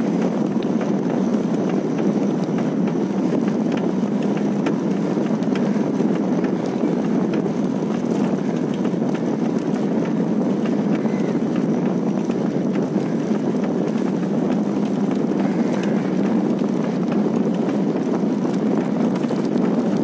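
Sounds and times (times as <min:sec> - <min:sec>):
bicycle tyre noise on road: 0:00.0 - 0:20.0
faint rapid ticks: 0:00.0 - 0:20.0
wind on microphone: 0:00.0 - 0:20.0.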